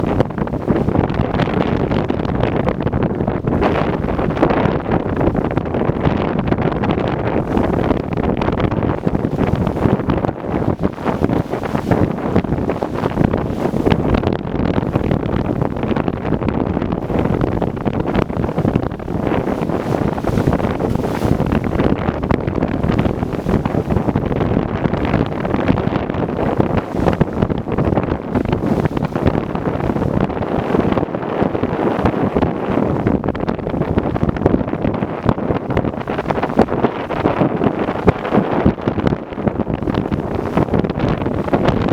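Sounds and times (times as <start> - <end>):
waves washing on water: 0.0 - 41.9
wind buffeting microphone: 0.0 - 41.9.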